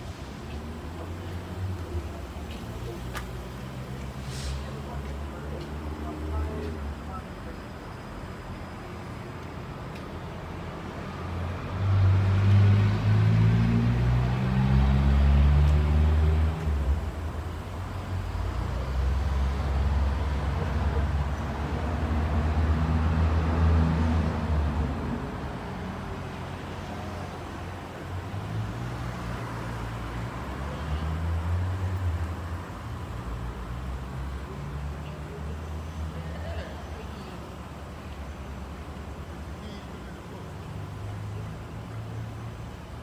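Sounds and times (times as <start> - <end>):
vehicles driving past: 0.0 - 43.0.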